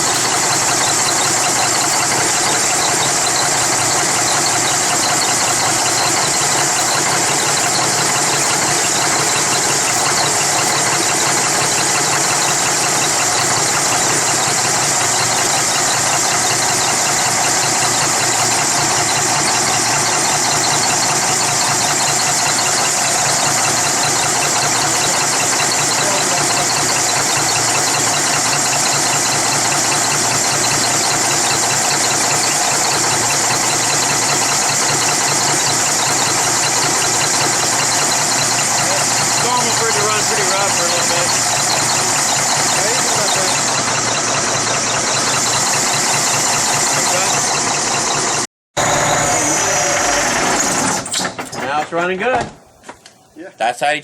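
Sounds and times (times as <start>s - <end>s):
diesel engine idling roughly: 0.0s - 51.8s.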